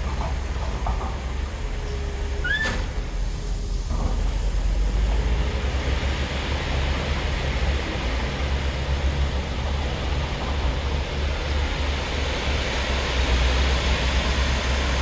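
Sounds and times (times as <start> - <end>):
heavy diesel machinery engine drone: 0.0 - 15.0.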